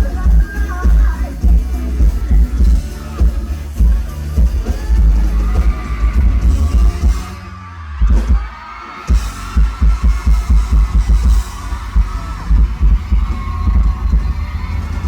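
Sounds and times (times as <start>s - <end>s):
fast heavy bass-drum beat: 0.0s - 15.0s
live band music over pa: 0.0s - 15.0s.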